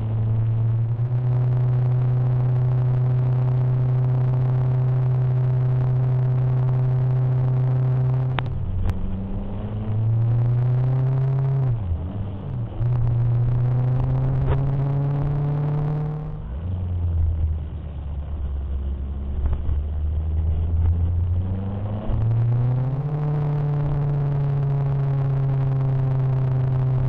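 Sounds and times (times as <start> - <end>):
motorcycle engine: 0.0 - 27.0.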